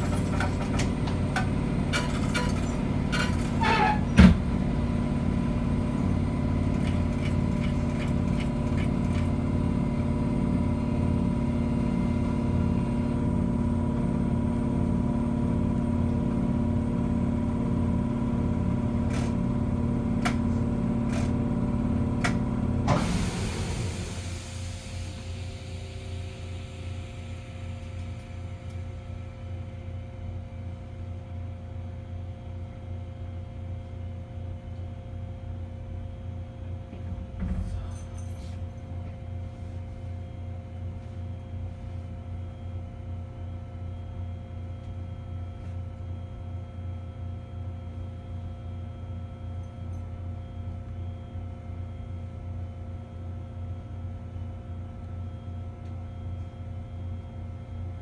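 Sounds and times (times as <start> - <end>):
electric train equipment hum: 0.0 - 58.0.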